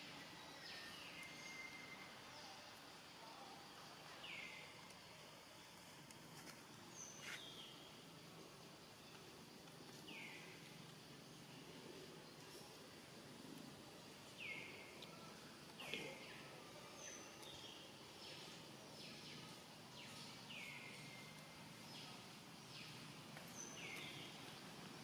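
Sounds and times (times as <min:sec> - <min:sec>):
low steady background noise: 0:00.0 - 0:25.0.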